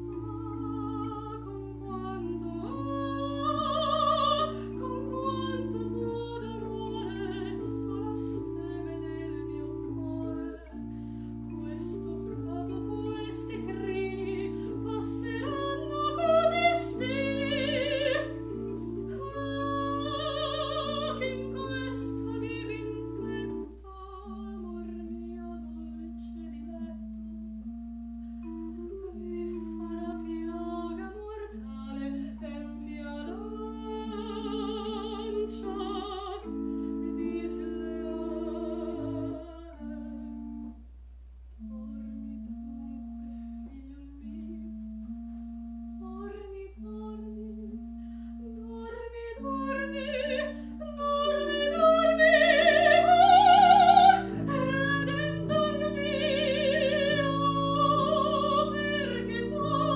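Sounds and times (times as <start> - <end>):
woman singing an aria: 0.0 - 27.2, 28.5 - 40.7, 41.6 - 45.2, 46.0 - 59.9
chamber organ: 0.0 - 59.9.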